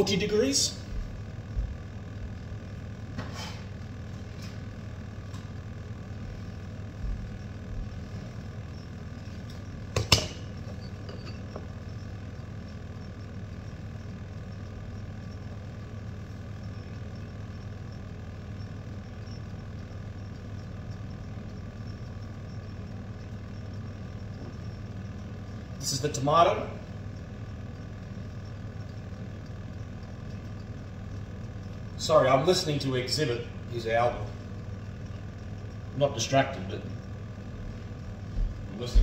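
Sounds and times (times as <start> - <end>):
kitchen appliance humming: 0.0 - 39.0.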